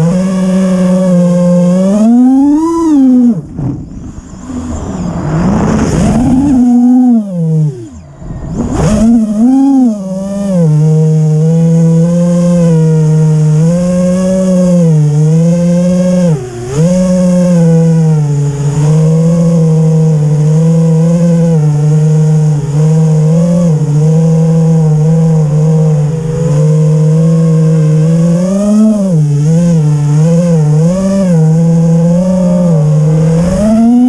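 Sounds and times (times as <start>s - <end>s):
quadcopter motors whining: 0.0s - 34.0s.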